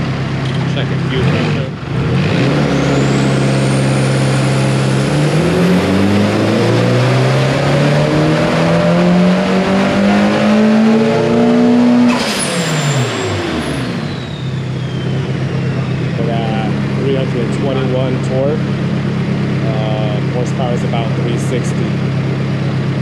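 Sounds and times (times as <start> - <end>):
turbocharged car engine revving: 0.0 - 23.0.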